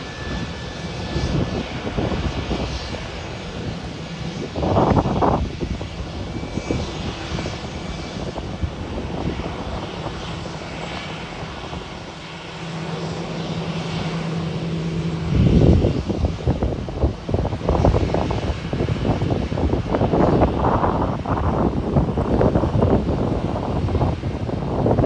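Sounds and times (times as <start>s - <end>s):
jet airliner engines running: 0.0s - 25.0s
wind buffeting microphone: 0.0s - 25.0s.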